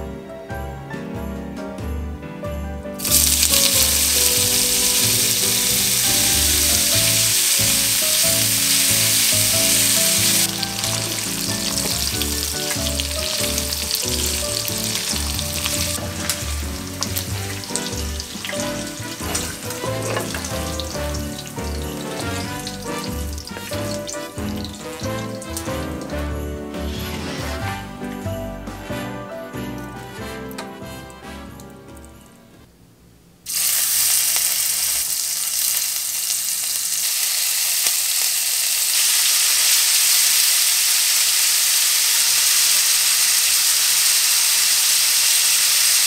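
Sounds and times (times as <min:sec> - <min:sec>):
bacon sizzling in a frying pan: 0:03.0 - 0:27.6, 0:33.5 - 0:46.0.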